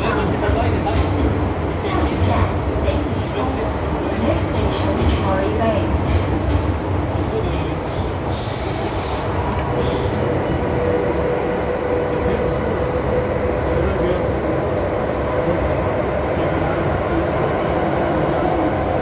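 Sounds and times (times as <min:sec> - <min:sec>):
subway car rumble: 0:00.0 - 0:19.0.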